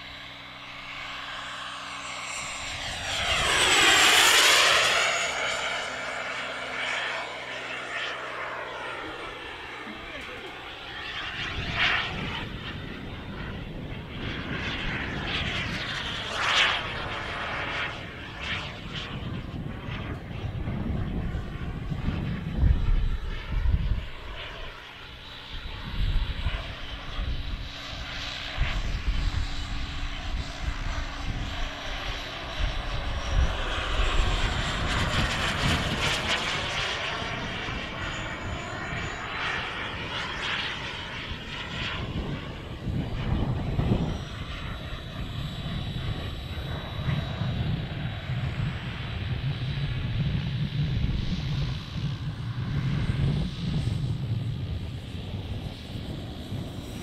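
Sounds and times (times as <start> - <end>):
model jet turbine rushing: 0.0 - 57.0.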